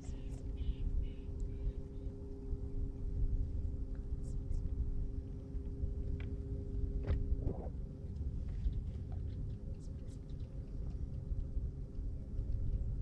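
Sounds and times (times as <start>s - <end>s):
low steady hum: 0.0s - 13.0s
wind buffeting microphone: 2.6s - 13.0s.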